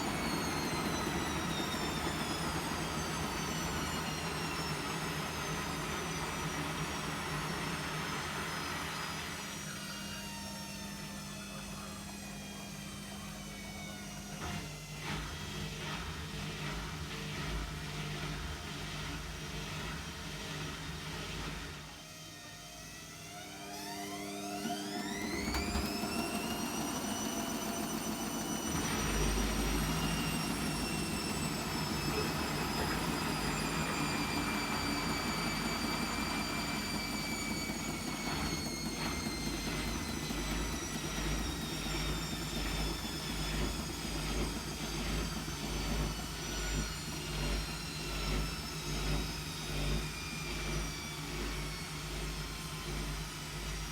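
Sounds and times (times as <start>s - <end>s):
washing machine motor whine: 0.0s - 53.9s.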